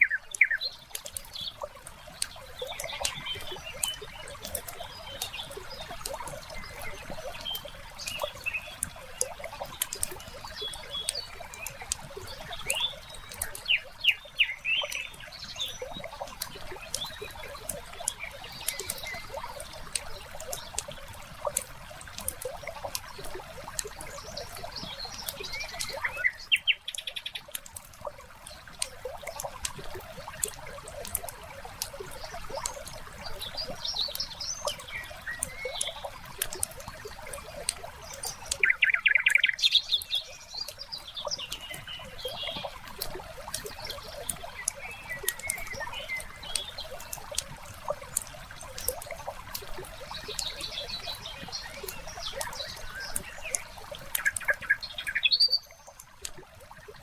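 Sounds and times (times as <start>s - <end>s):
birds chirping: 0.0s - 57.0s
water trickling: 0.0s - 57.0s.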